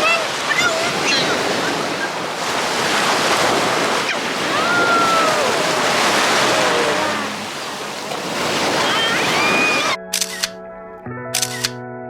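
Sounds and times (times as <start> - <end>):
surf washing onto beach: 0.0 - 10.0.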